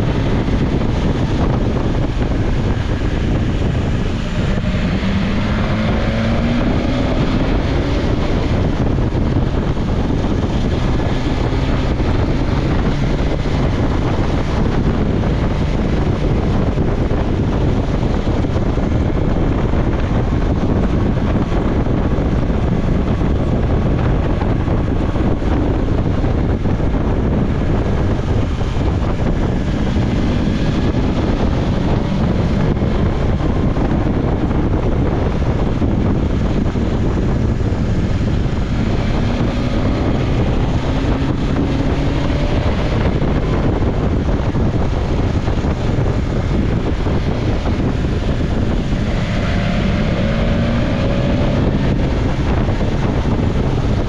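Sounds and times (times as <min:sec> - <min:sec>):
motorcycle engine running: 0:00.0 - 0:54.0
wind over microphone: 0:00.0 - 0:54.0.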